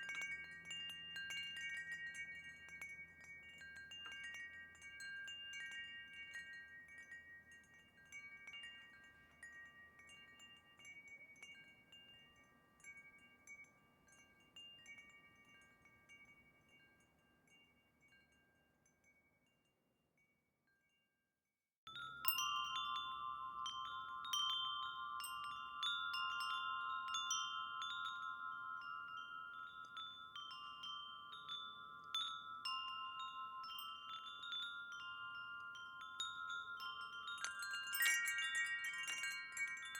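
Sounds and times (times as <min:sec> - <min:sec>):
wind chimes ringing: 0:00.0 - 0:21.0, 0:21.9 - 0:39.9.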